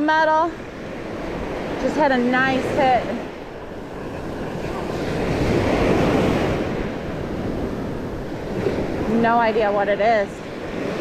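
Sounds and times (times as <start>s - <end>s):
surf washing in: 0.0s - 11.0s
wind buffeting microphone: 0.0s - 11.0s.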